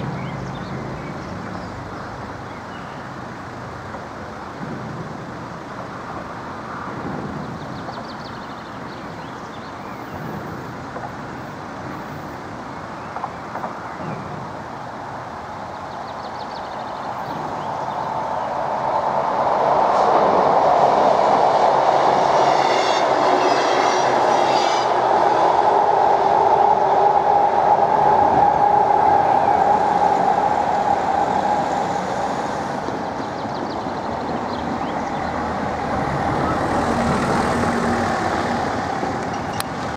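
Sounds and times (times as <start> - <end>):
passing train hum and rail noise: 0.0 - 39.9.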